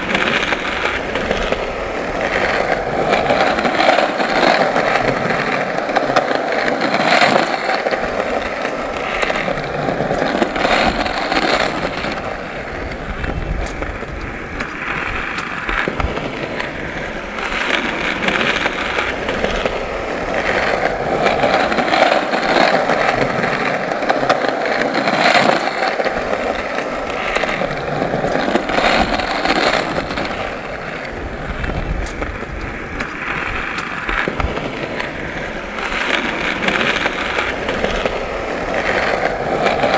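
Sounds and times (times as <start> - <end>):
skateboard wheels rolling on pavement: 0.0 - 39.9.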